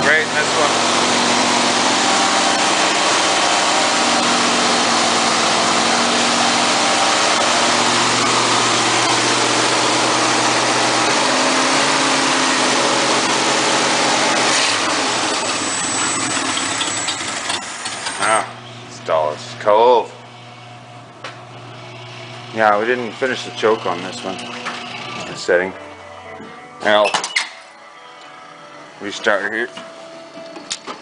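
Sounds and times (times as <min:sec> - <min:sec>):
truck engine running and stalling: 0:00.0 - 0:18.9, 0:20.3 - 0:26.5.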